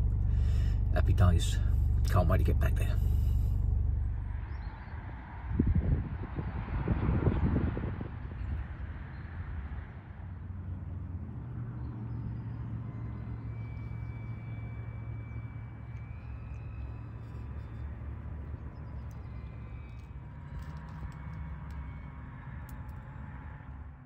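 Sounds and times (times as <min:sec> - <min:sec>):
low engine hum: 0:00.0 - 0:24.0
wind rumble on microphone: 0:03.1 - 0:24.0.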